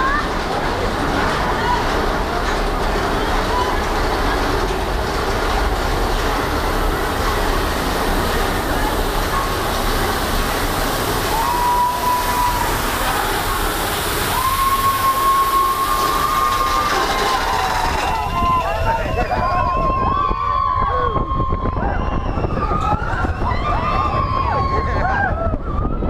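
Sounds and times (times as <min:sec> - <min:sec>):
roller coaster rumble and rattle: 0:00.0 - 0:26.0.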